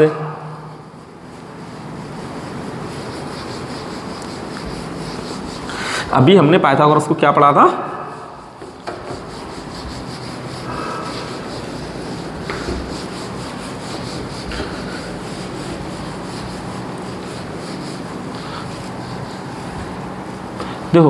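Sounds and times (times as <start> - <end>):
duster rubbing on whiteboard: 0.0 - 21.0.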